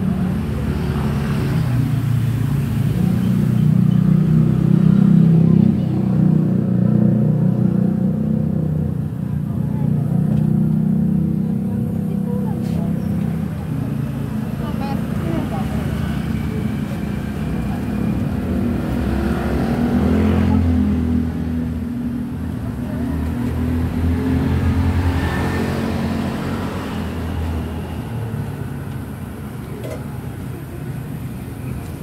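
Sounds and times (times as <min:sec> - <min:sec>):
passing road traffic rumble: 0:00.0 - 0:32.0.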